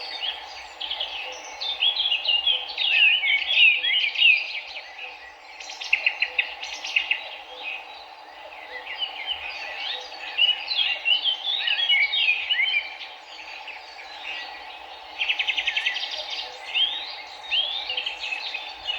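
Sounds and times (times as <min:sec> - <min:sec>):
songbirds chirping and singing: 0:00.0 - 0:18.9.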